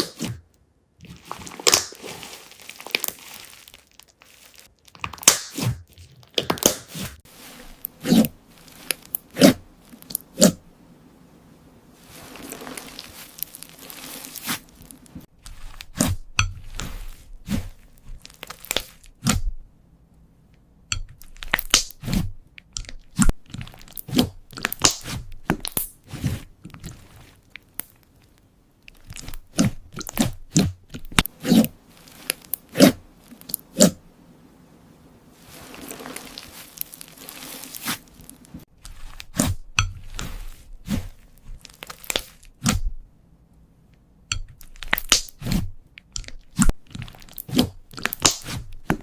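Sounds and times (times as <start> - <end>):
slime popping and squishing: 1.0 - 7.1, 7.7 - 10.6, 12.1 - 19.6, 20.9 - 33.9, 35.5 - 43.0, 44.3 - 49.0.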